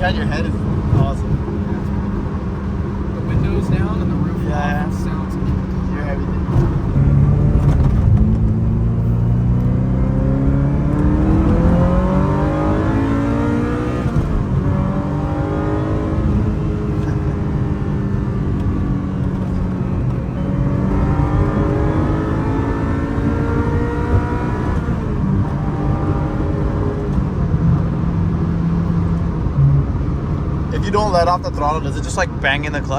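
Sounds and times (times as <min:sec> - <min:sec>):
car engine accelerating through gears: 0:00.0 - 0:32.9.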